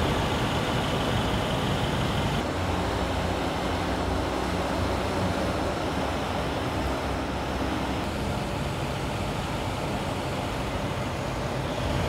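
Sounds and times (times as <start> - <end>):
low vehicle rumble with hiss: 0.0 - 12.0.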